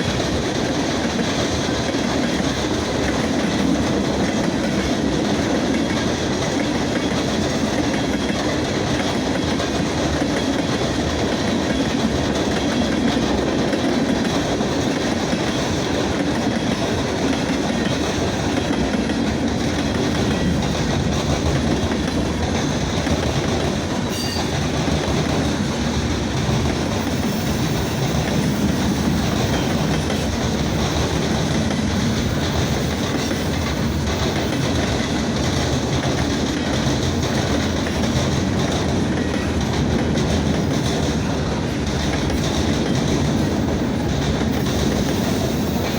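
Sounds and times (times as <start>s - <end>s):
freight train cars rolling past: 0.0s - 45.9s.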